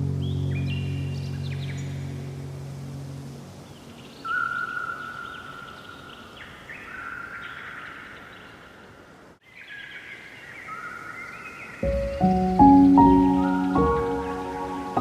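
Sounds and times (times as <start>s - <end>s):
songbirds singing: 0.0s - 2.6s, 3.5s - 15.0s.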